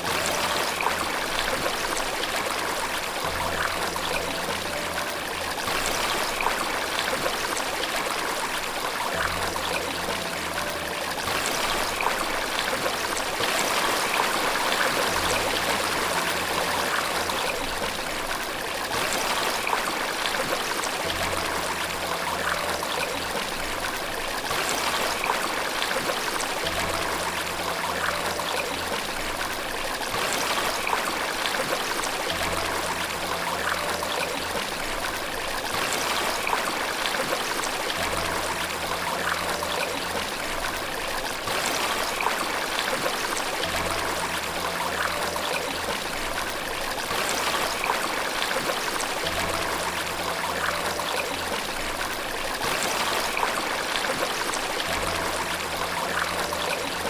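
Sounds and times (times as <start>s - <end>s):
rushing stream: 0.0s - 57.0s
soft low music notes: 0.0s - 57.0s.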